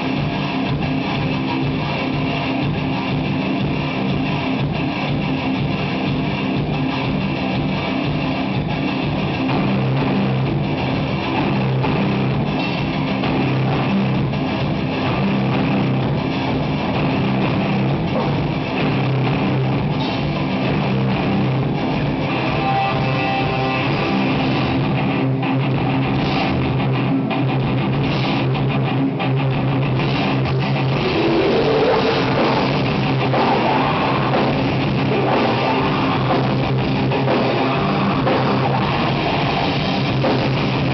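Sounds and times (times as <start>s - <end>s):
distorted electric guitars: 0.0s - 40.9s
drum kit: 0.0s - 40.9s.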